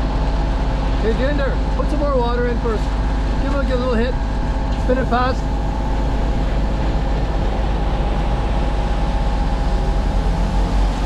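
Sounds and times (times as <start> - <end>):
diesel truck engines running: 0.0 - 11.0
wind rumble on microphone: 0.0 - 11.0.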